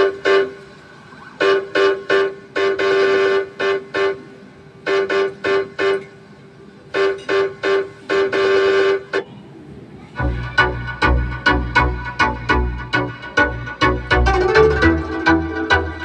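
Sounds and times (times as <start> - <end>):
horn-like honks in dance music: 1.4 - 6.1, 6.9 - 9.3, 10.2 - 16.0.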